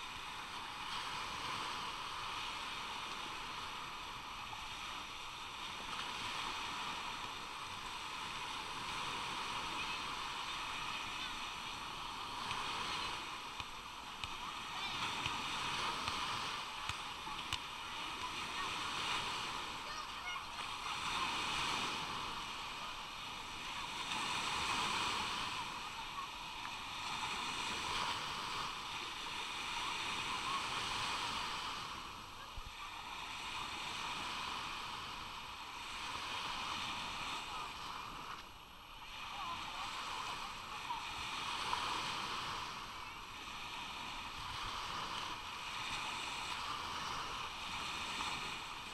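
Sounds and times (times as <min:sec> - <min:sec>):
waves washing on sandy beach: 0:00.0 - 0:48.9.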